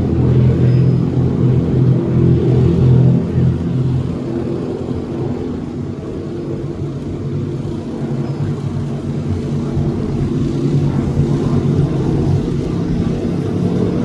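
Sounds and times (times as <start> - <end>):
powerboat engines drone: 0.0 - 14.0.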